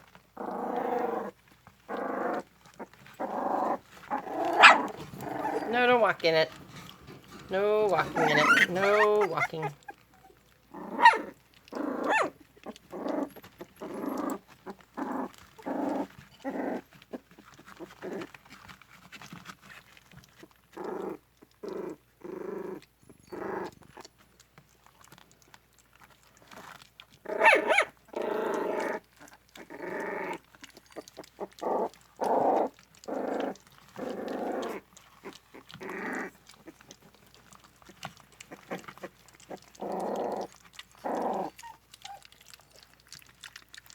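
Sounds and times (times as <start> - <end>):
puppies growling and whimpering: 0.0 - 43.9.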